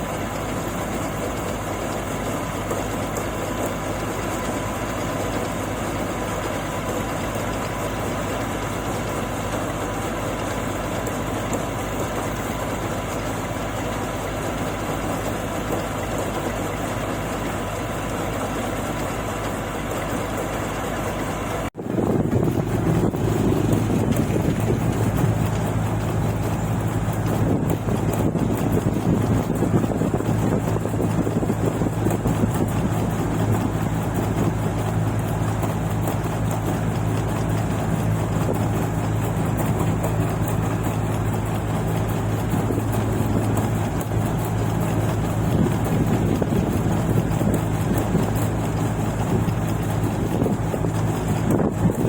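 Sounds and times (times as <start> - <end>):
close engine low hum: 0.0 - 52.0
harvester engine running: 0.0 - 52.0.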